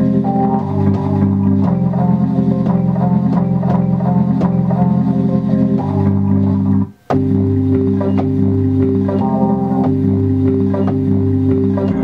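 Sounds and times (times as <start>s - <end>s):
bass and electric piano music: 0.0s - 12.0s.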